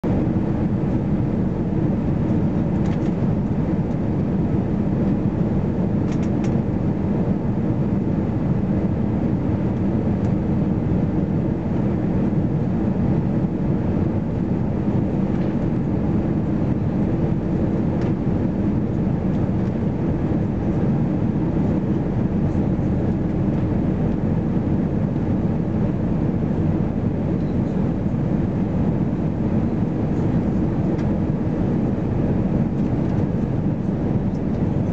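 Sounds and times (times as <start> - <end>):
airplane cabin engine rush: 0.0 - 34.9.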